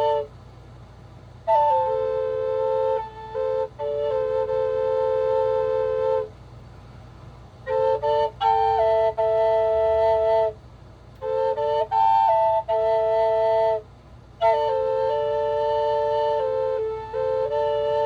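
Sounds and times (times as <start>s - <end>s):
solo flute melody: 0.0s - 0.4s, 1.4s - 6.4s, 7.6s - 18.0s.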